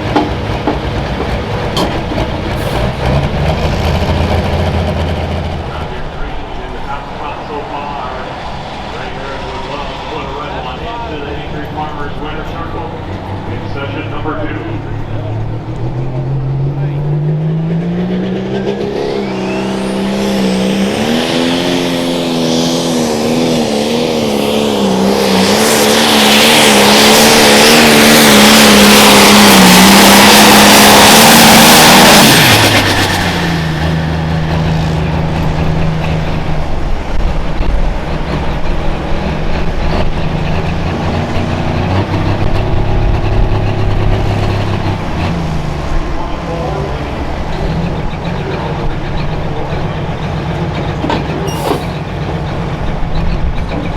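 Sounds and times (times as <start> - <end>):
tractor engine at full throttle: 0.0 - 53.9.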